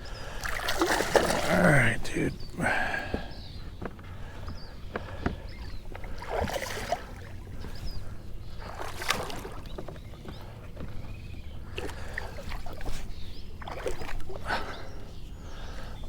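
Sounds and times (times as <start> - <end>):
water splashing and sloshing: 0.1 - 16.0.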